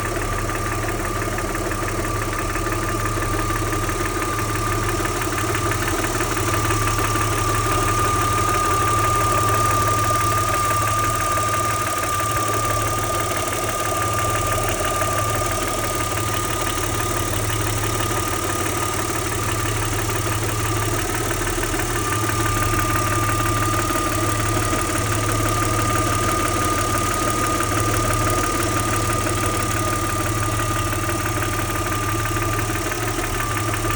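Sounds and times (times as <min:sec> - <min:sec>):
engine idling with fast clacking: 0:00.0 - 0:33.9
high-pitched whine: 0:02.6 - 0:33.9.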